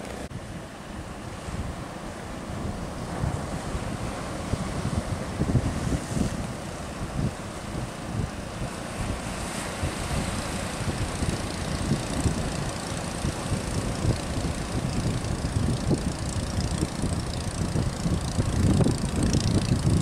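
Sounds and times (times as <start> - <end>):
outboard motor droning: 0.0 - 20.0
surf: 0.0 - 20.0
wind: 0.0 - 20.0.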